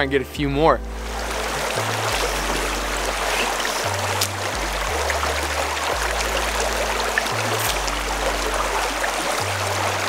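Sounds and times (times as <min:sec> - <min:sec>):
background music with bass line: 0:00.0 - 0:10.0
shallow creek rushing: 0:00.8 - 0:10.0.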